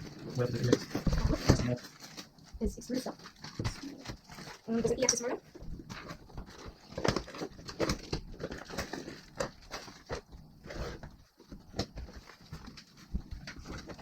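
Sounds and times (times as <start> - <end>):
parts and packaging handled: 0.0 - 14.0.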